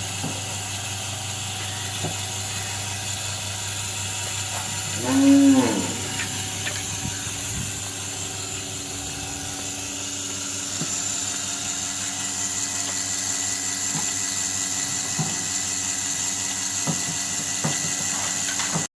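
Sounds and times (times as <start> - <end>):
milking machine hum and hiss: 0.0 - 18.9.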